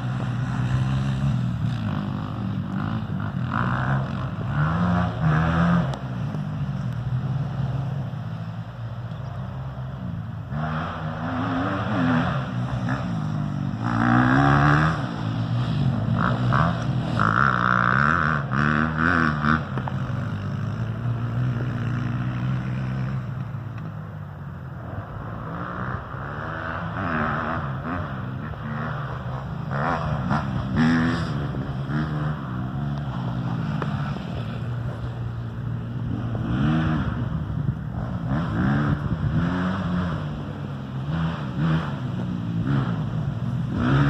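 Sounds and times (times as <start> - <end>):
off-road vehicle engine revving: 0.0 - 8.5, 9.1 - 23.9, 25.0 - 44.0.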